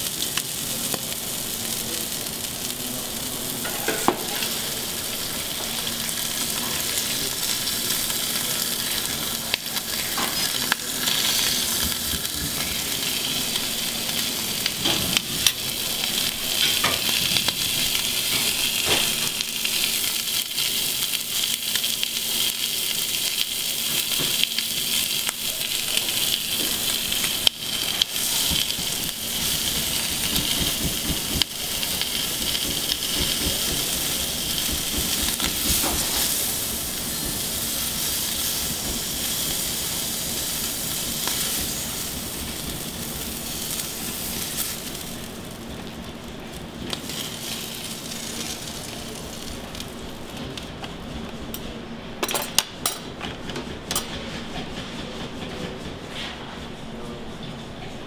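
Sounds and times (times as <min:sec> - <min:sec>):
seafood sizzling on griddle: 0:00.0 - 0:50.8.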